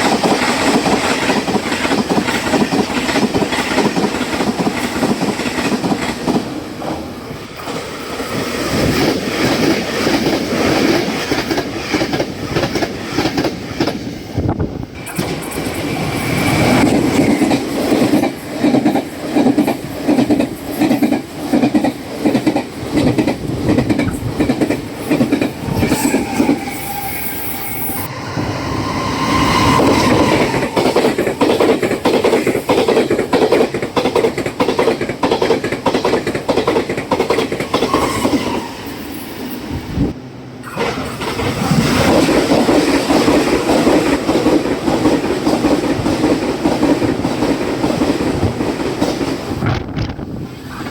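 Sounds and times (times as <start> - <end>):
train wheels clattering over rails: 0.0 - 27.0, 28.1 - 38.8, 40.6 - 50.3.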